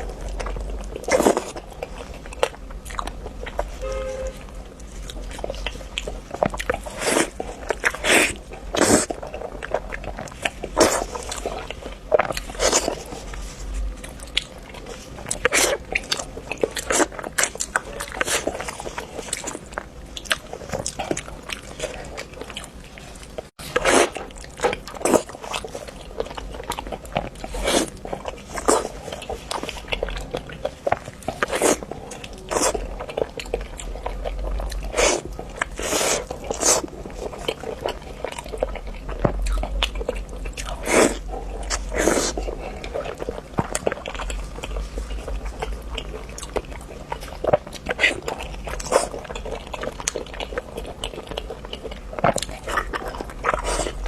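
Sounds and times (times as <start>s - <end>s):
crisp crunching bites and chewing: 0.0s - 54.0s.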